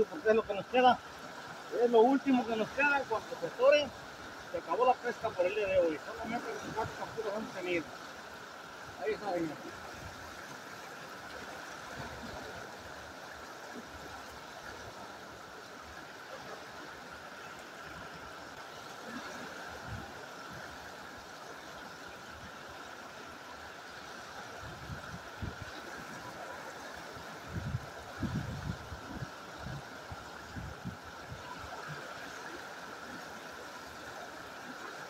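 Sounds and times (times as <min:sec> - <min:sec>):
river rapids rushing: 0:00.0 - 0:35.0.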